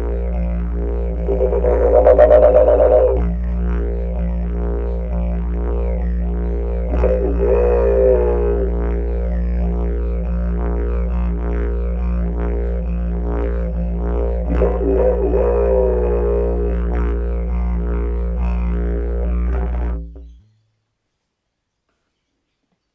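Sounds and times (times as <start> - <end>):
didgeridoo drone: 0.0 - 20.3.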